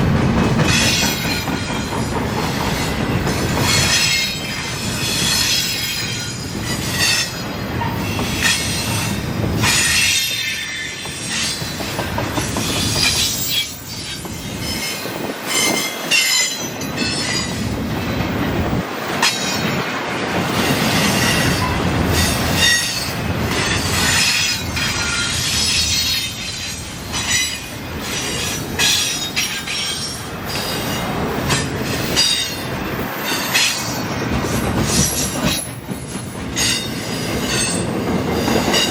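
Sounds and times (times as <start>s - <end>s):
train rumble: 0.0s - 38.9s
wheels clicking over rail joints: 0.0s - 38.9s
train wheels squealing: 0.6s - 17.7s, 20.7s - 38.9s.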